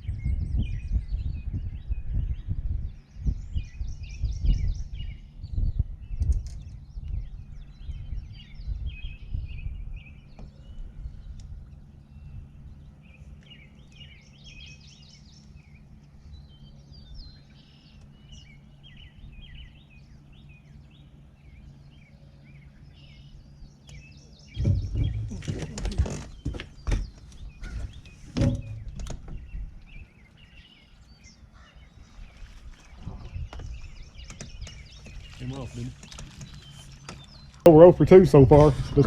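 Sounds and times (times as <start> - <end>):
low rumble: 0.0 - 26.8, 32.5 - 39.0
songbirds chirping and singing: 0.0 - 39.0
boat motor humming: 4.8 - 39.0.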